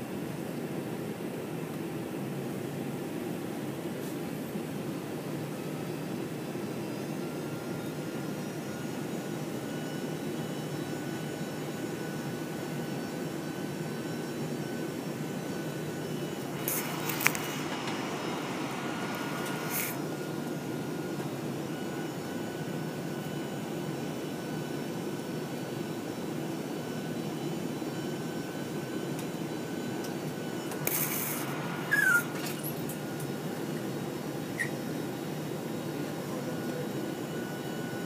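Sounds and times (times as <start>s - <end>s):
engine rumble in airliner cabin: 0.0s - 38.0s.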